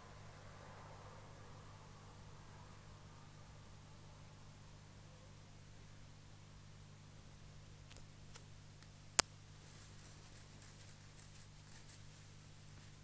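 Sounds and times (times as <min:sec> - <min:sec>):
faint low hum and hiss: 0:00.0 - 0:13.0.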